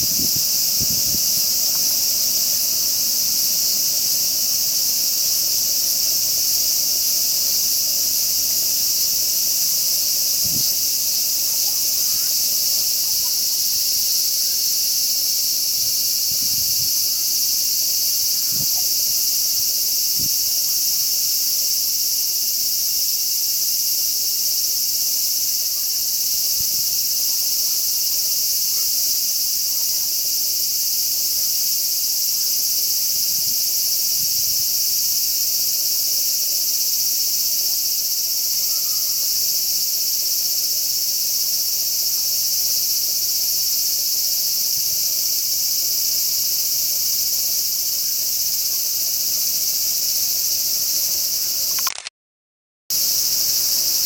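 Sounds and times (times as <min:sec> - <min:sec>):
cicadas droning: 0:00.0 - 0:52.0, 0:52.9 - 0:54.0.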